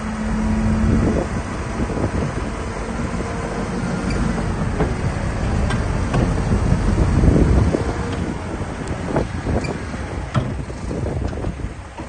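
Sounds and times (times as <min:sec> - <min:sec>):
diesel trucks rumbling: 0:00.0 - 0:12.0.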